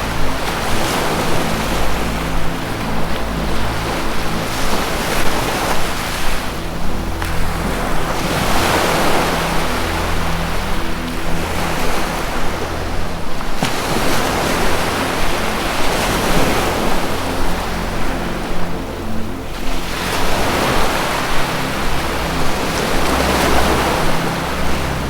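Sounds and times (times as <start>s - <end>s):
ocean surf washing in: 0.0s - 25.0s
soft low music tones: 0.0s - 25.0s.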